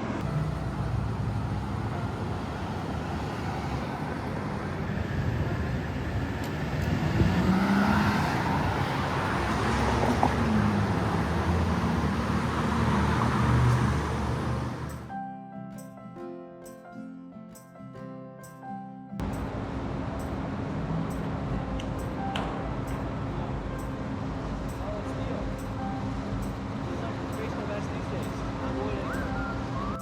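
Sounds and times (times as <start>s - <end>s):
cars passing on road: 0.0s - 15.1s, 19.2s - 30.0s.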